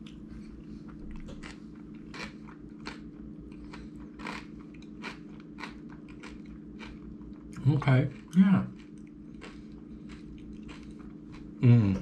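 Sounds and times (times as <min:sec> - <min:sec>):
person chewing: 0:00.0 - 0:12.0
steady low hum: 0:00.0 - 0:12.0.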